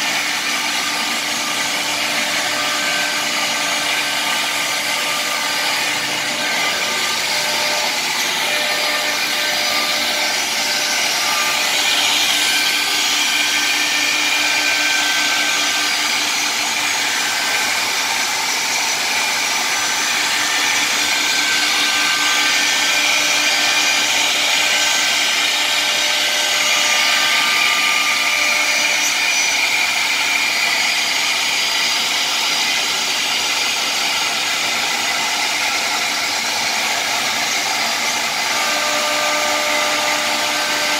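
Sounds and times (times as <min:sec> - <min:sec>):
router spindle whirring: 0:00.0 - 0:40.9.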